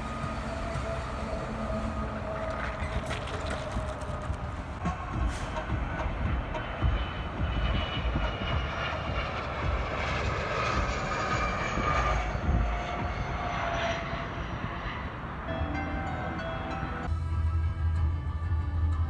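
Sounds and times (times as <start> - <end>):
airliner passing low: 0.0 - 17.6.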